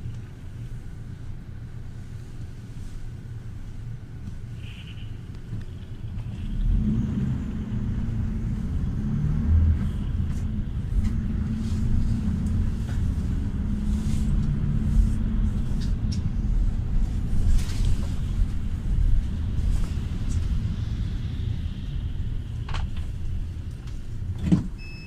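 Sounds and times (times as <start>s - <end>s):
minibus engine and road rumble: 0.0s - 25.0s.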